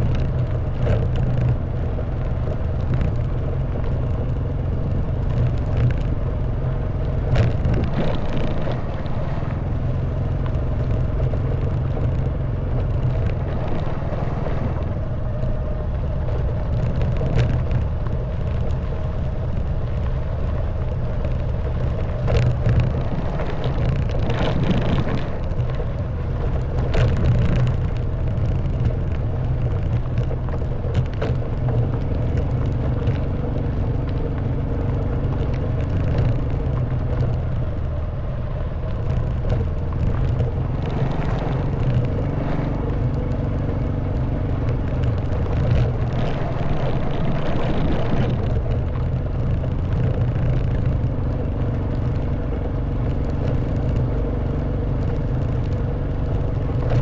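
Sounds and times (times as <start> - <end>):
motorbike engine running: 0.0 - 57.0
road and wind rumble: 0.0 - 57.0.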